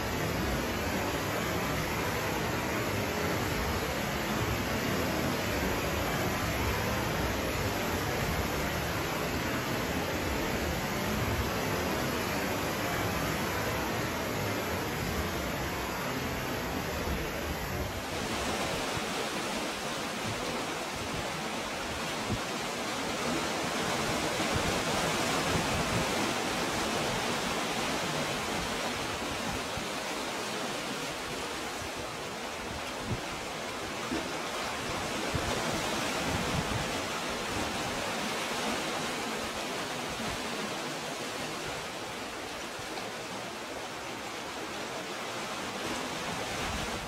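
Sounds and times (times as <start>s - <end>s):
sea surf rushing through rocks: 0.0s - 47.0s.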